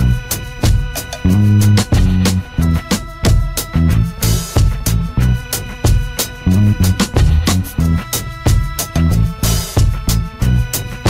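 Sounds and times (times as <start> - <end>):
bass line: 0.0 - 11.0
guitar: 0.0 - 11.0
drum beat: 0.4 - 10.2.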